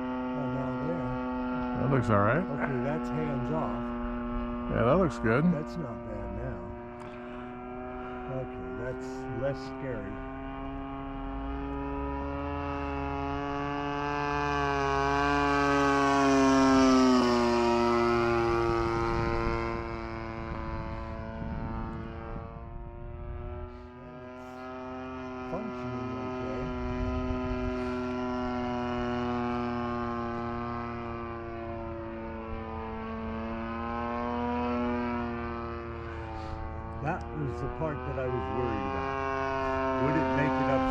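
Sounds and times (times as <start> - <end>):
model airplane motor and propeller drone: 0.0 - 40.9.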